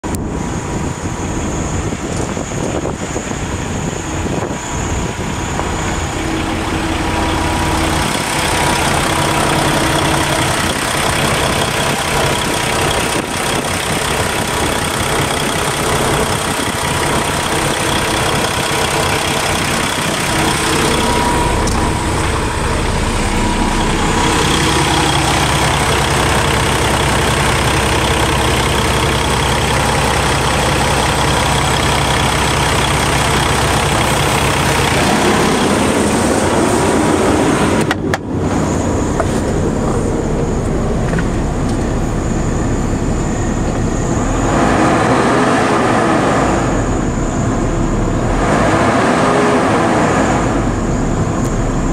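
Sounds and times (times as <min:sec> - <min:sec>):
steady whine: 0:00.0 - 0:51.9
diesel truck engine idling: 0:00.1 - 0:51.9.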